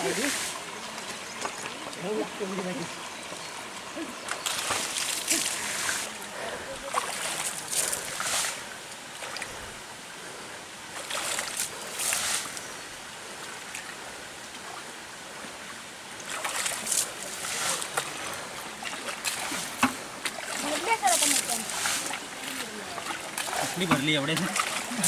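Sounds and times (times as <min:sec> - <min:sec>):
water splashing and sloshing: 0:00.0 - 0:25.0.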